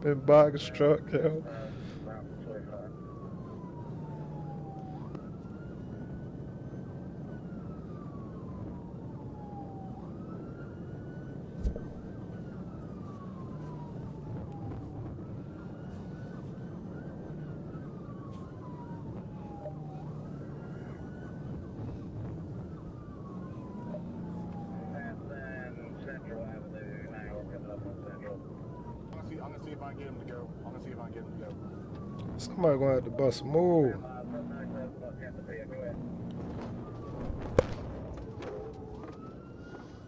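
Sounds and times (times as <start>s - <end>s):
police siren wailing: 0.0s - 40.0s
road noise: 0.0s - 40.0s.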